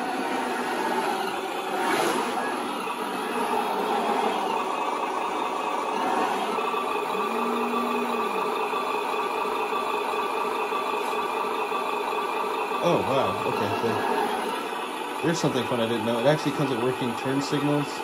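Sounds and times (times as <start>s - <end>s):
short rising whine: 0.0s - 9.9s, 12.8s - 17.6s
simulated truck engine running: 0.0s - 18.0s.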